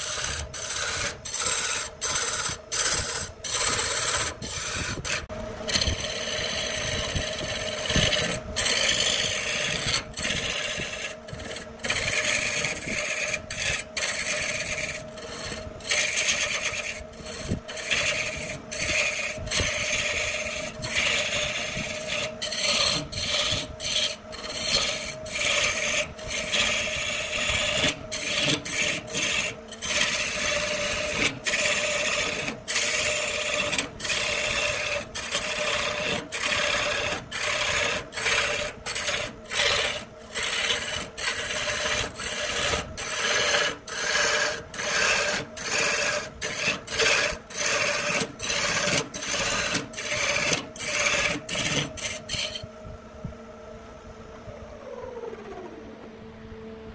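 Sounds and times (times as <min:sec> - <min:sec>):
gouge scraping wood on lathe: 0:00.0 - 0:52.7
steady lathe hum: 0:00.0 - 0:56.9.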